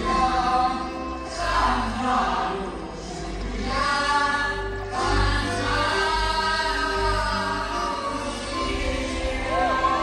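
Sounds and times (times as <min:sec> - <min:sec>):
choir singing long notes: 0:00.0 - 0:10.0.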